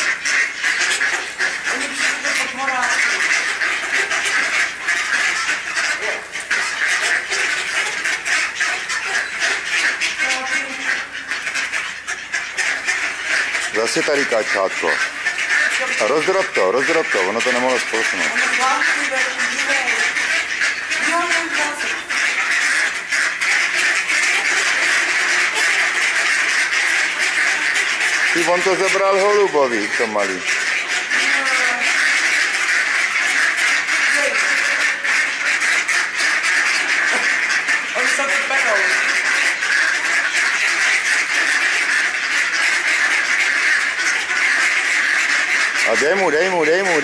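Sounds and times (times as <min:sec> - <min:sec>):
ducks quacking: 0:00.0 - 0:47.0.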